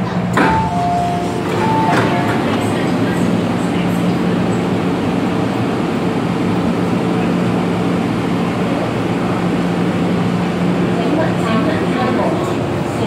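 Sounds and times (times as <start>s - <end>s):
train car hum and rumble: 0.0s - 13.0s.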